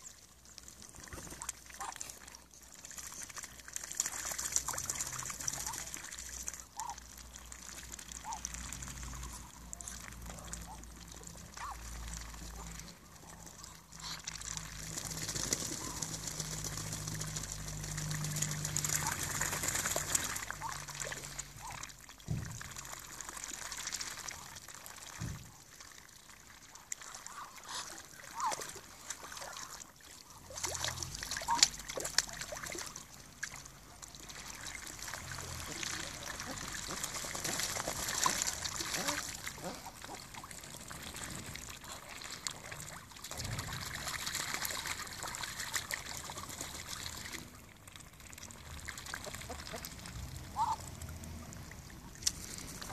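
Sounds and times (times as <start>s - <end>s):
ducks dabbling in water: 0.0s - 52.9s.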